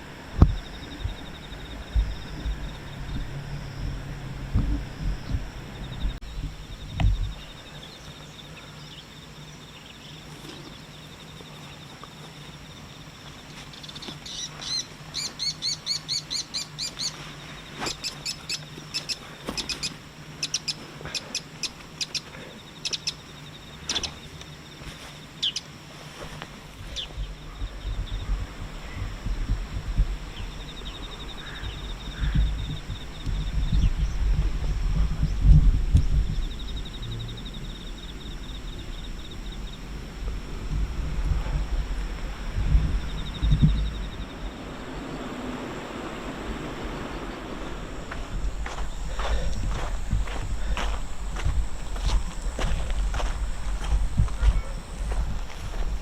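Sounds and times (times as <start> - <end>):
birds chirping: 0.0 - 40.0, 41.4 - 56.0.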